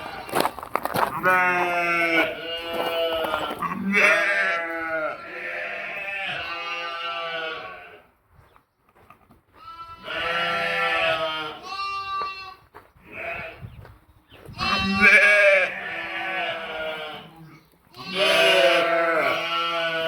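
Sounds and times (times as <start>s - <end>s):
sheep and lambs bleating: 0.0s - 8.1s, 9.5s - 13.8s, 14.4s - 20.0s.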